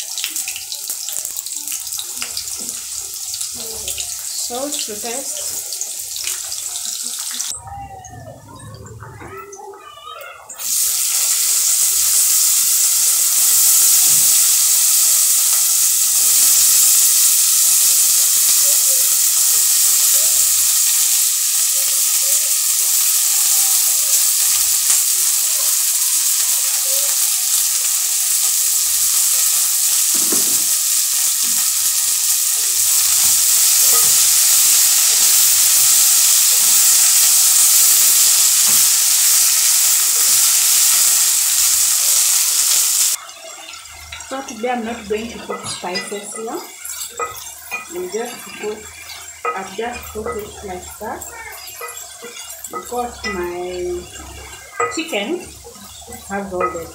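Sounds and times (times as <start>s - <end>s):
vegetables sizzling in oil: 0.0s - 7.6s, 9.8s - 56.9s.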